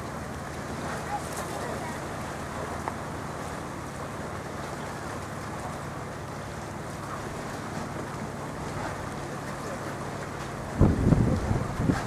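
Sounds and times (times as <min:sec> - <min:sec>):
boat engine drone: 0:00.0 - 0:12.0
water noise: 0:00.0 - 0:12.0
wind: 0:00.0 - 0:12.0.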